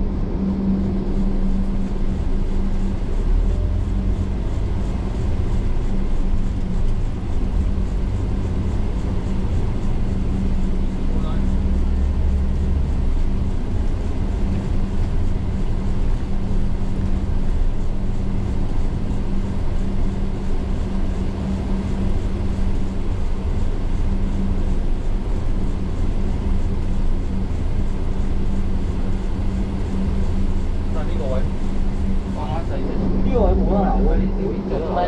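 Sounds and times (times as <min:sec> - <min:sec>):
coach engine drone: 0:00.0 - 0:35.0
road and tyre noise: 0:00.0 - 0:35.0.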